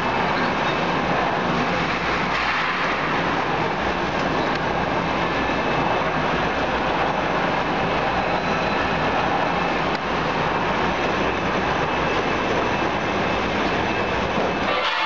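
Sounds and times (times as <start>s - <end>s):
loud machinery noise: 0.0s - 15.0s.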